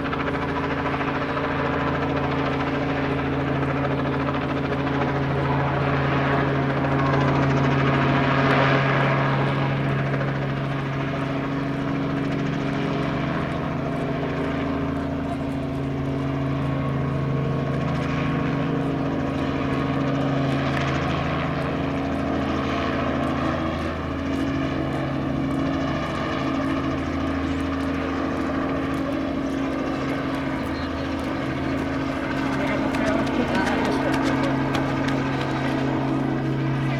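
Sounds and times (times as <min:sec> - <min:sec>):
helicopter rotor and engine hum: 0:00.0 - 0:36.9.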